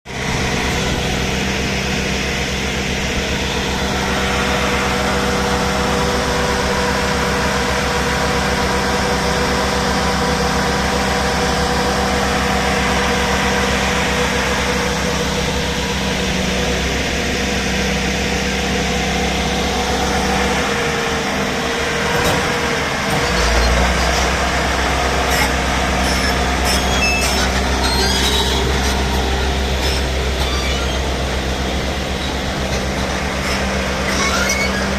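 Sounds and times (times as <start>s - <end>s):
heavy machinery humming: 0.1s - 34.9s.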